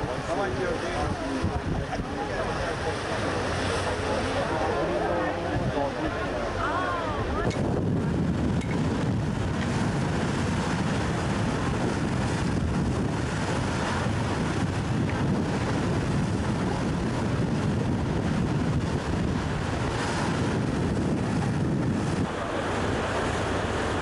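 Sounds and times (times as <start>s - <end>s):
boat engine drone: 0.0s - 24.0s
wind buffeting microphone: 0.0s - 24.0s.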